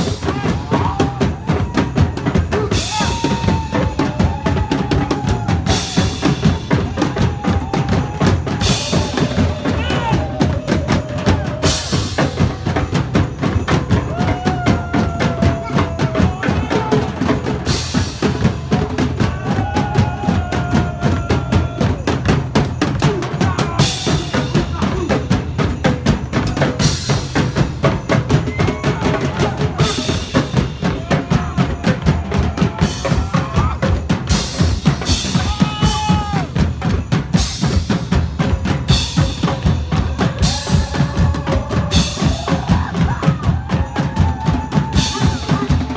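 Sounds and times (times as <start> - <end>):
drum-heavy music: 0.0 - 45.9.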